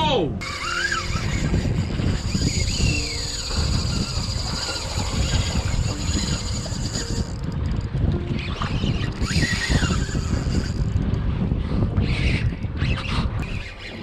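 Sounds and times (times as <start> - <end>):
water around boat: 0.0 - 14.0
wind buffeting microphone: 0.0 - 14.0.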